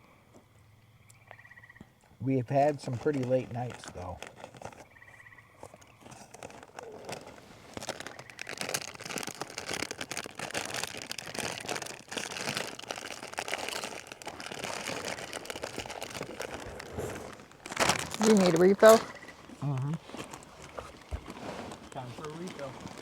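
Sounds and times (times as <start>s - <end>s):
crinkling and rustling: 2.4s - 23.0s.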